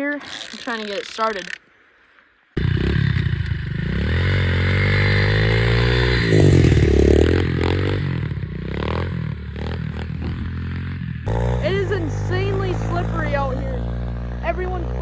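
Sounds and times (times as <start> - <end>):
small motorbike engine running: 2.6 - 15.0.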